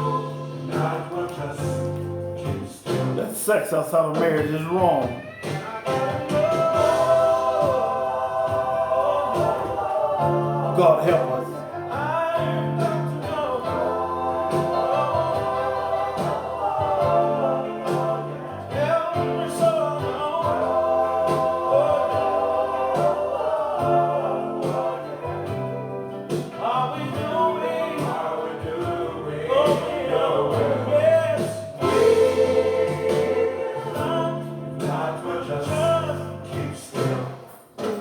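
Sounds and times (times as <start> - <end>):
gospel voices singing: 0.0 - 38.0
instrumental backing: 0.0 - 38.0.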